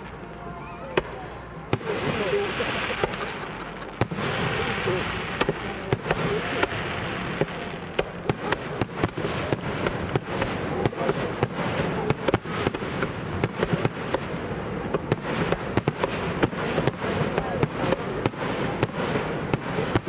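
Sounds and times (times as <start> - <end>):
continuous rumble: 0.0 - 20.0
crackling fireworks: 0.0 - 20.0
fireworks bursting with bangs: 0.0 - 20.0.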